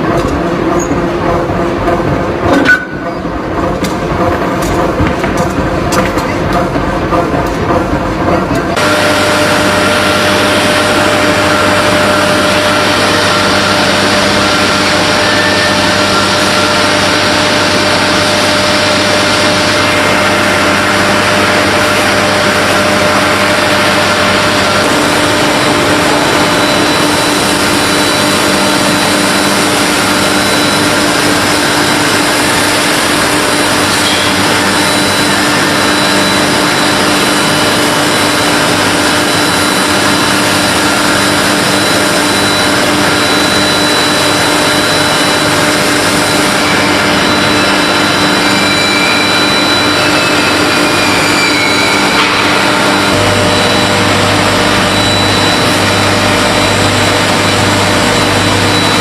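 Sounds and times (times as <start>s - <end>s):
industrial machinery roar: 0.0s - 59.0s
steady hums: 0.0s - 59.0s.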